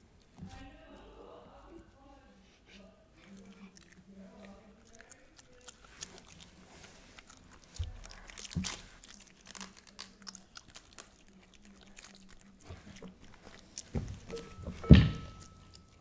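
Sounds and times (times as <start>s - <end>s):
dog chewing cabbage: 3.0s - 16.0s.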